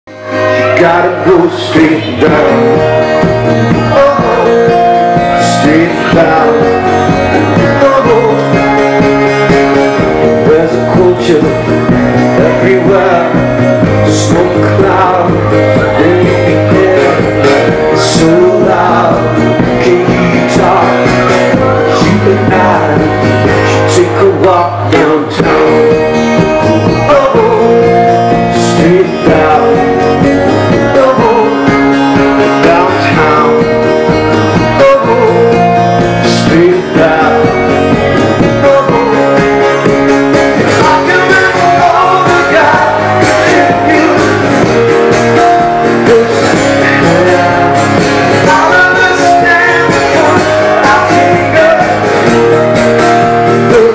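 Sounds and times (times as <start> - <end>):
electric guitar: 0.1 - 53.9
man singing lead vocal: 0.1 - 53.9.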